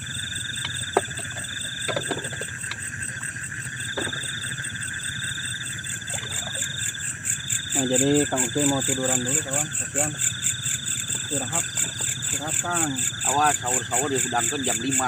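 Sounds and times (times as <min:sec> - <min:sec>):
crickets and insects trilling: 0:00.0 - 0:15.0.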